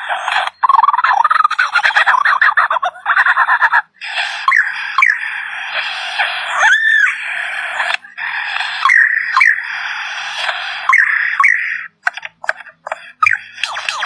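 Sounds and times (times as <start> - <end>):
bird chattering and whistling: 0.0 - 14.0.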